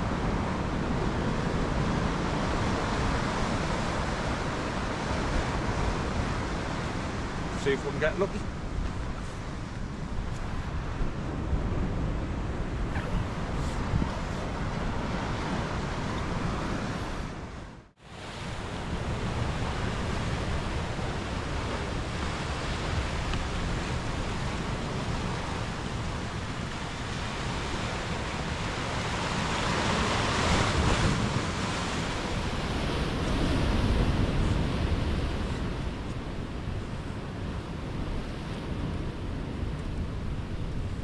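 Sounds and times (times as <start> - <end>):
surf washing against rocks: 0.0 - 41.0
wind noise on microphone: 0.0 - 41.0.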